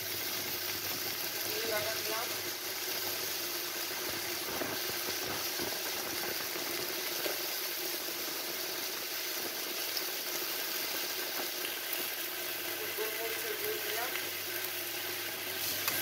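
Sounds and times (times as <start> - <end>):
vegetables sizzling in a wok: 0.0 - 16.0.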